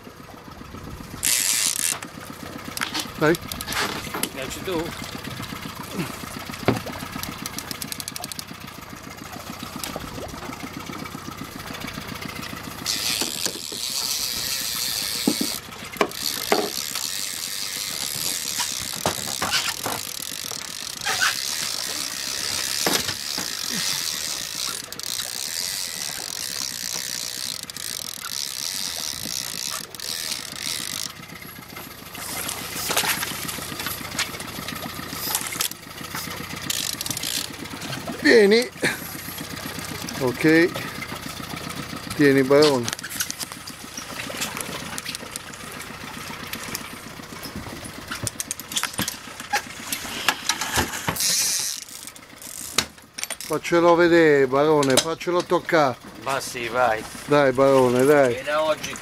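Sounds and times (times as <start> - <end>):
fish splashing: 0.0 - 42.2, 42.8 - 53.2
outboard motor idling: 0.0 - 59.0
fishing reel ratcheting: 1.0 - 55.6.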